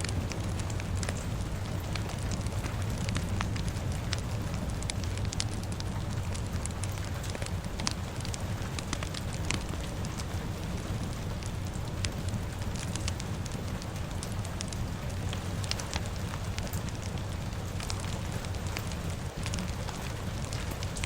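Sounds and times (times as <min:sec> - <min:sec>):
fire crackling and popping: 0:00.0 - 0:21.0
low rumble: 0:00.0 - 0:21.0
rain: 0:00.0 - 0:21.0.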